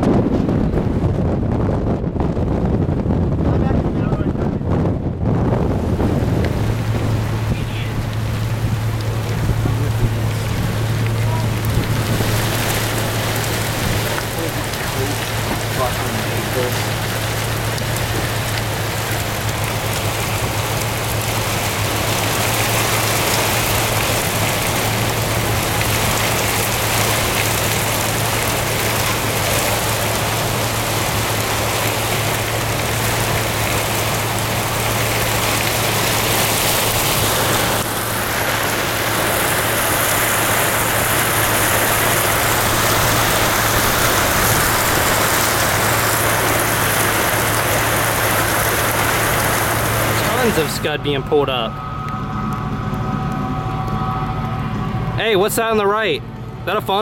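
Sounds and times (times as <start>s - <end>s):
steady low hum: 4.5s - 57.0s
heavy rain on car roof: 6.1s - 53.4s.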